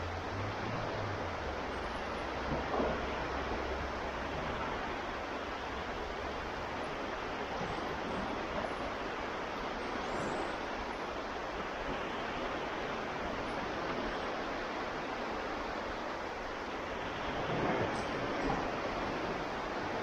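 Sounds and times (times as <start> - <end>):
waves washing onto shore: 0.0 - 20.0.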